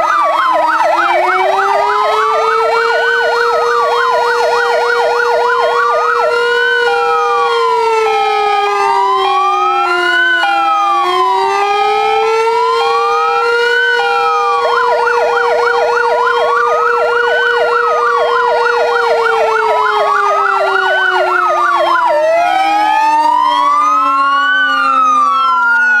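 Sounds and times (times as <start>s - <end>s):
fast yelp siren: 0.0s - 26.0s
low siren tone sliding down: 0.0s - 26.0s
siren wailing: 0.0s - 26.0s
two-note siren tone: 0.8s - 26.0s.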